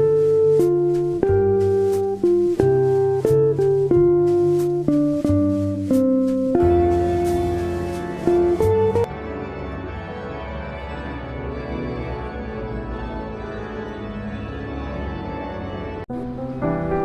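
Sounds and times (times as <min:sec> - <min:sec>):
organ music: 0:00.0 - 0:15.0.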